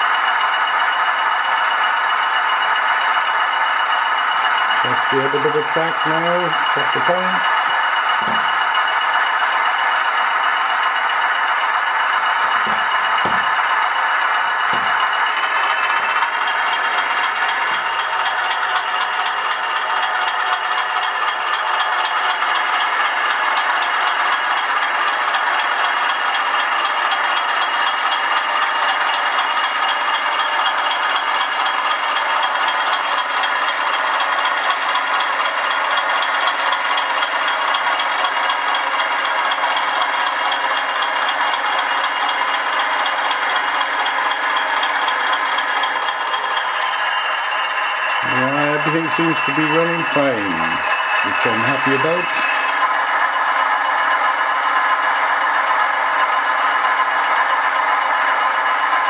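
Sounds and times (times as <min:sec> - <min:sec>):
model train diesel engine sound: 0:00.0 - 0:59.0
model train running noise: 0:00.0 - 0:59.0.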